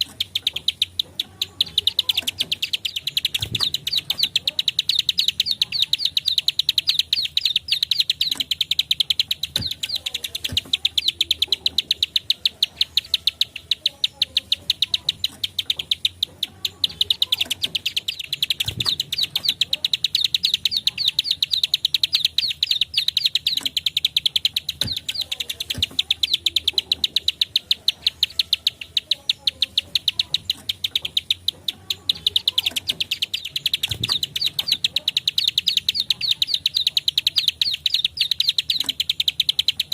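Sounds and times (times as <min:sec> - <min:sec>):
bird giving rapid clicking call: 0:00.0 - 0:39.9.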